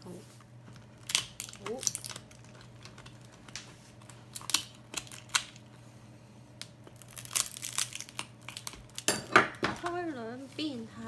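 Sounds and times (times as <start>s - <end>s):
crust crackling and snapping: 0.4s - 5.8s, 6.5s - 10.7s.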